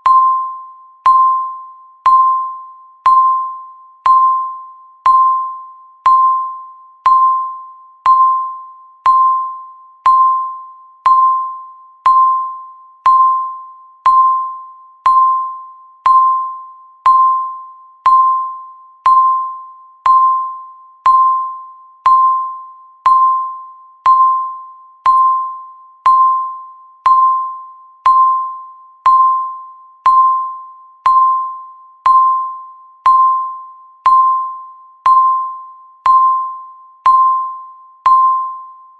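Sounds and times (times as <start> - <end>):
electronic timer ding: 0.0 - 38.9.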